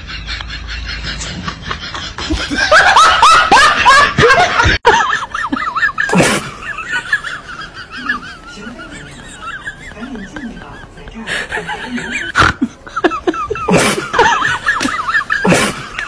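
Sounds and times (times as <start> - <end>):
person laughing hard: 0.0 - 16.0.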